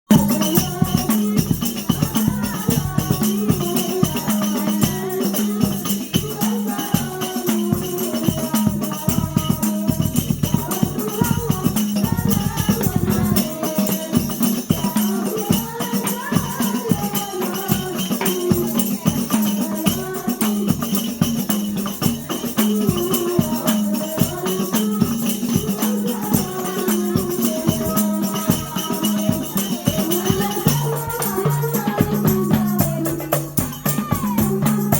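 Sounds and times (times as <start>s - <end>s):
frame drums and jingles: 0.1s - 34.9s
group singing in unison: 0.1s - 34.9s.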